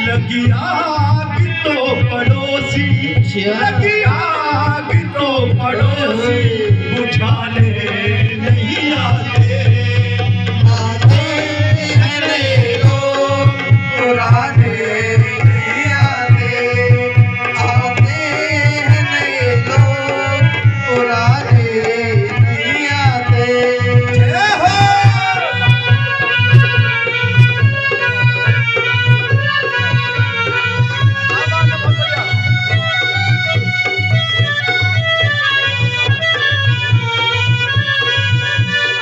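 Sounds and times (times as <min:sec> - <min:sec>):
barrel drum rhythm: 0:00.0 - 0:39.0
sustained melody line: 0:00.0 - 0:39.0.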